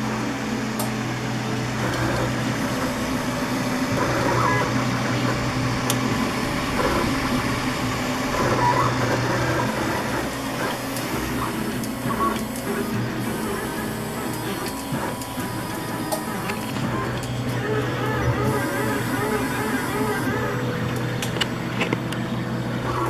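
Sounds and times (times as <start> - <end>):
printer humming: 0.0 - 23.0
printer motors whining chirps: 0.0 - 23.0.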